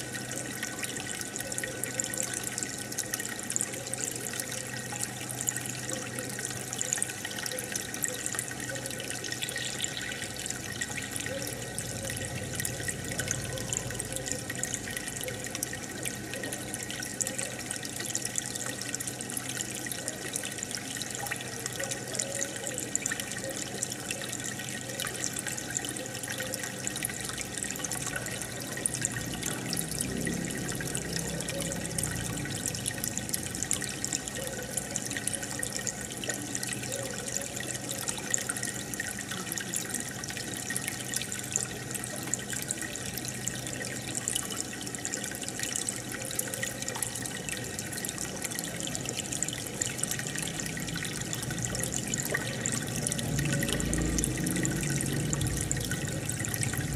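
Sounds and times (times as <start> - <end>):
aquarium water bubbling: 0.0 - 56.9.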